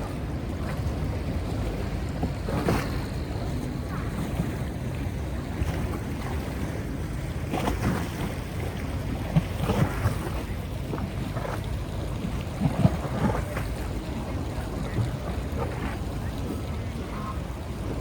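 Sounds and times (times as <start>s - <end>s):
boat engine rumble: 0.0s - 18.0s
rushing water: 0.0s - 18.0s
wind buffeting microphone: 0.0s - 18.0s.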